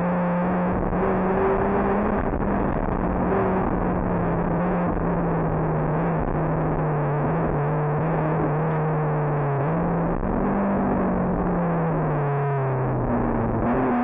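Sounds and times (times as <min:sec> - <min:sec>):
rally car engine under load: 0:00.0 - 0:14.0
road and tyre noise: 0:00.0 - 0:14.0.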